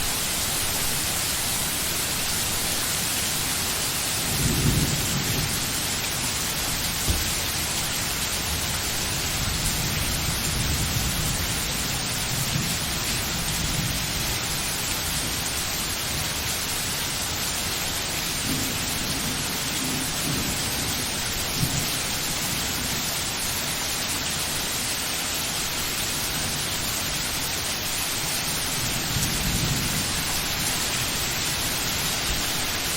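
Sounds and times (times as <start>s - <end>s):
steady rain hissing: 0.0s - 32.9s.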